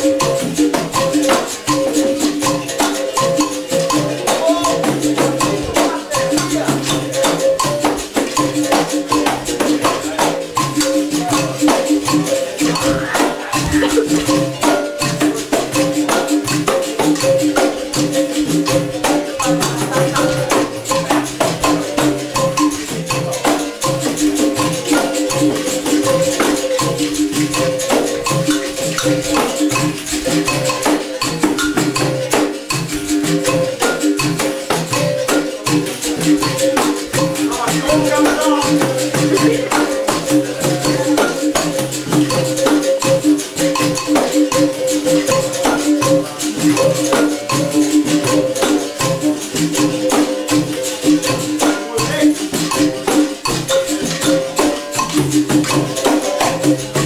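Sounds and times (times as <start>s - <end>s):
berimbaus ringing: 0.0s - 56.7s
hand drum: 0.0s - 57.0s
shakers rattling: 0.0s - 57.0s.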